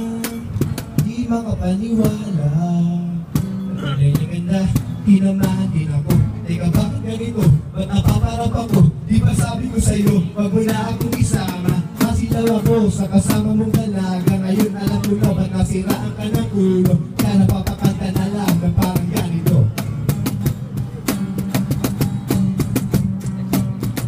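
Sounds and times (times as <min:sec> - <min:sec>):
acoustic guitars strumming: 0:00.0 - 0:24.0
cajon beat: 0:00.0 - 0:24.0.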